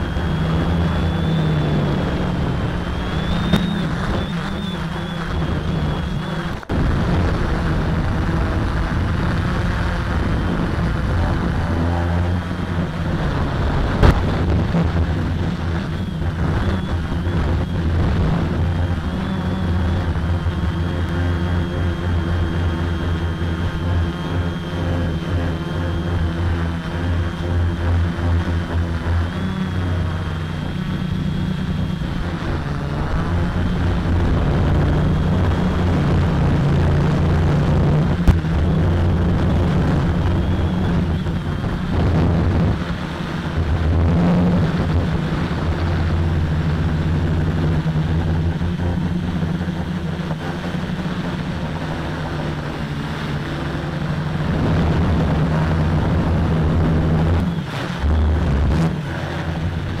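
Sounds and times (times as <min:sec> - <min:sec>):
quadcopter buzzing hum: 0:00.0 - 1:00.0.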